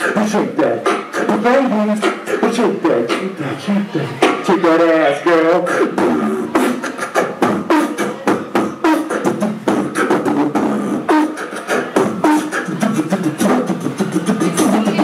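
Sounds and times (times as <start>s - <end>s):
beatboxing into microphone: 0.0s - 15.0s.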